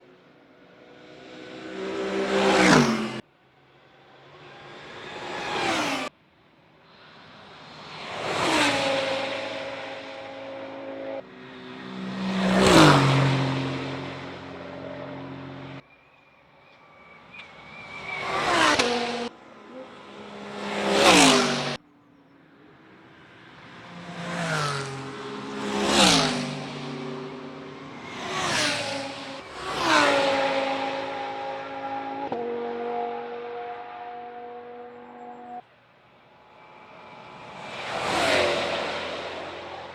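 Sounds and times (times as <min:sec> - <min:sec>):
race cars passing at speed: 0:00.0 - 0:15.8, 0:16.6 - 0:39.9.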